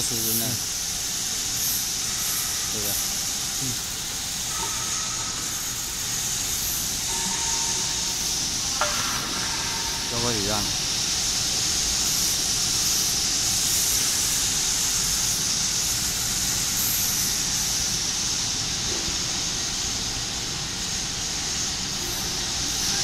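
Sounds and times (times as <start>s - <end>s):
wood router machine hissing: 0.0s - 18.8s.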